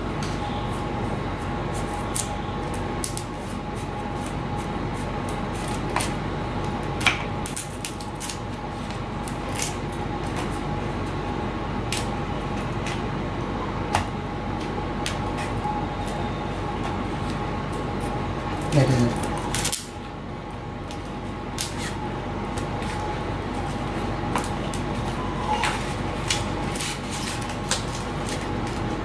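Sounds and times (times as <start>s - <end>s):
steady hum with faint tone: 0.0s - 29.0s.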